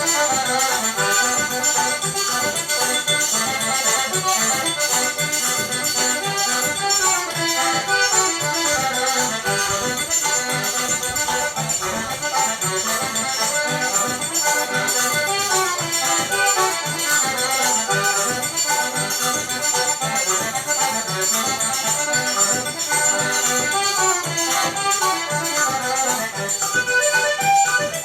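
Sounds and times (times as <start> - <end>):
accordion melody: 0.0 - 28.0.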